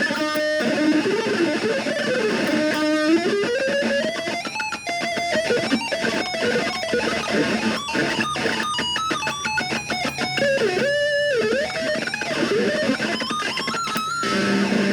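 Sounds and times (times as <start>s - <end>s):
distorted electric guitar: 0.0s - 14.9s.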